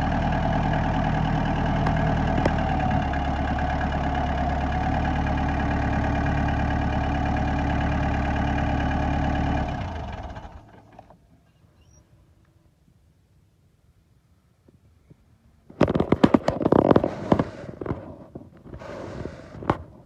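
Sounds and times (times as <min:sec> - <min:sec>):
tractor engine running: 0:00.0 - 0:12.0, 0:15.7 - 0:20.0.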